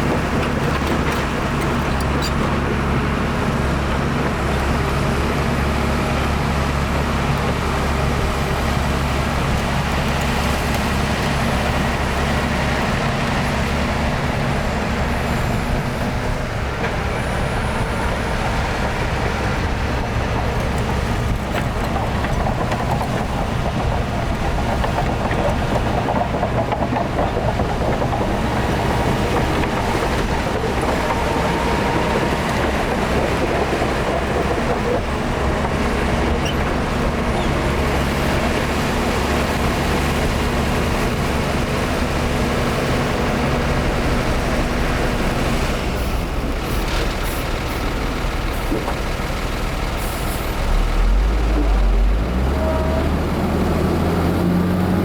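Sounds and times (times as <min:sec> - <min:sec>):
diesel earth-moving machinery: 0:00.0 - 0:55.0.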